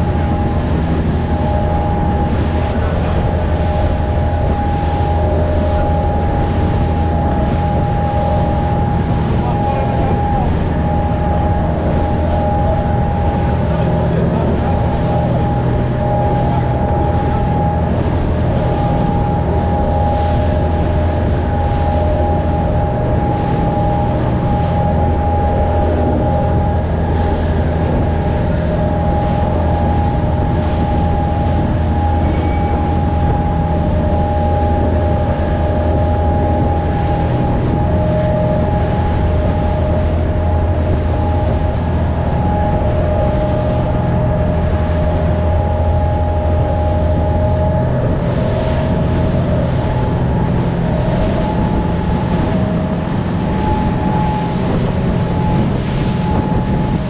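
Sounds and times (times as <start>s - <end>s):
speedboat engine droning: 0.0s - 57.0s
water rushing and splashing: 0.0s - 57.0s.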